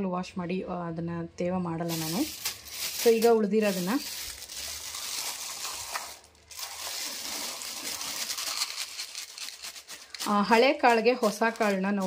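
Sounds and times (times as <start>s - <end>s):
plastic bag crinkling: 1.8s - 12.0s
lentils pouring into container: 1.9s - 12.0s.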